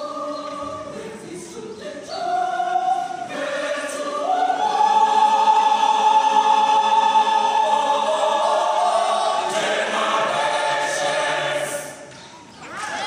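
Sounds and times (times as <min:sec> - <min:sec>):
church choir singing chords: 0:00.0 - 0:12.1.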